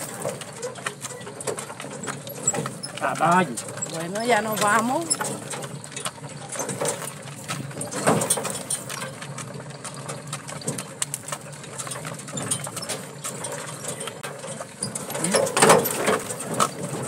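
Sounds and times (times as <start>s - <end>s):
cart rattling and creaking: 0.0s - 17.0s
horse hooves on stony track: 0.0s - 17.0s.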